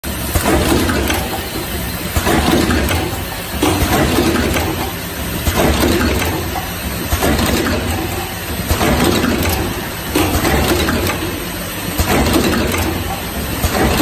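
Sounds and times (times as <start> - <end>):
machine clattering and clicks: 0.2 - 14.0.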